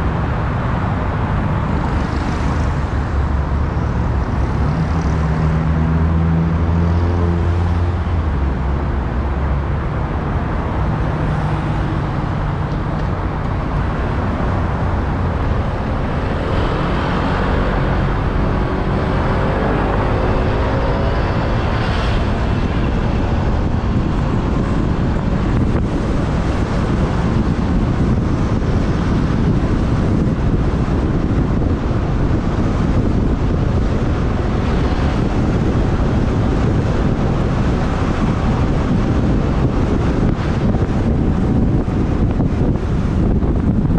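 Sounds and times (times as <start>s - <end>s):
surrounding traffic: 0.0s - 43.9s
wind on microphone: 0.0s - 43.9s.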